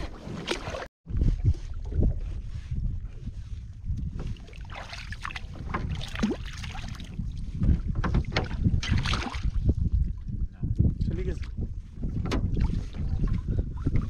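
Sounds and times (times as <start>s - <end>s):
water splashing around a boat: 0.0s - 10.2s, 11.2s - 14.0s
wind rumbling on microphone: 0.0s - 14.0s.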